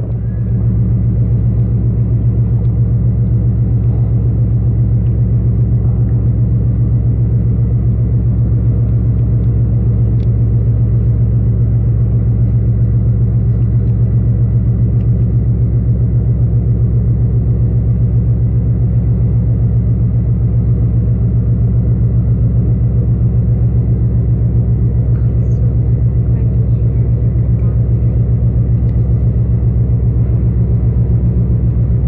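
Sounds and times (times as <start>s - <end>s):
faint steady whine: 0.0s - 32.0s
ship diesel engine throbbing: 0.0s - 32.0s.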